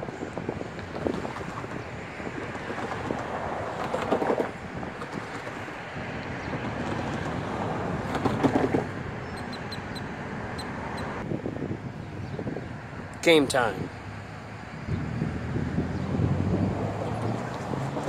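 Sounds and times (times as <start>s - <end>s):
distant road traffic: 0.0s - 18.0s
wind on microphone: 0.0s - 18.0s.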